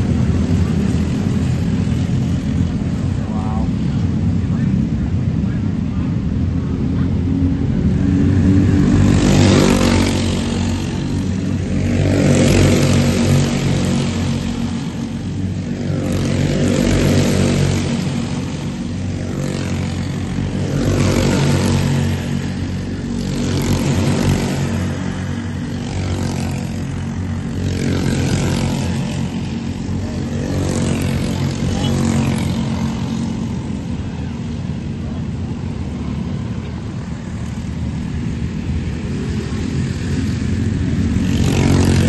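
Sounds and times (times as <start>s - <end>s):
engine running steadily: 0.0s - 42.0s.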